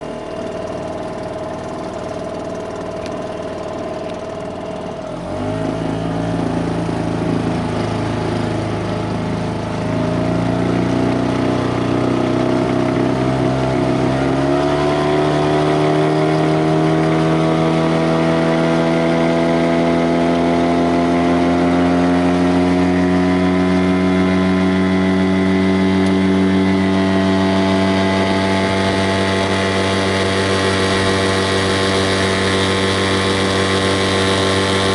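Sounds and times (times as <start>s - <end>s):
motor engine running: 0.0s - 34.9s.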